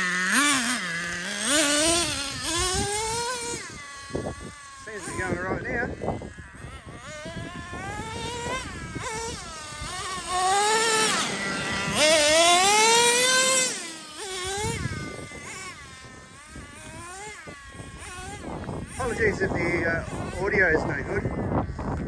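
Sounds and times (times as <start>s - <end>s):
small nitro engine revving: 0.0s - 22.0s
wind buffeting microphone: 1.0s - 22.0s.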